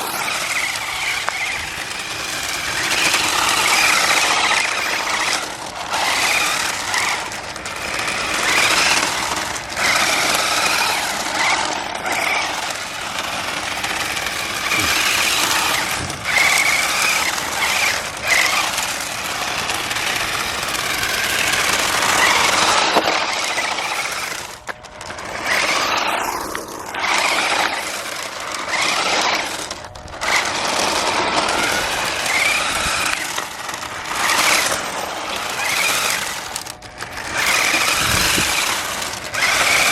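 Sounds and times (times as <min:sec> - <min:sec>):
rough wheel and tyre noise: 0:00.0 - 0:39.9
toy car electric motor whining: 0:00.0 - 0:39.9.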